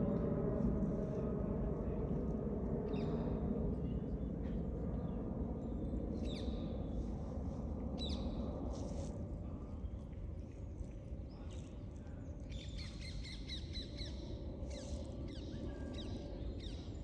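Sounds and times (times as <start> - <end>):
jet airliner rumble: 0.0 - 17.0.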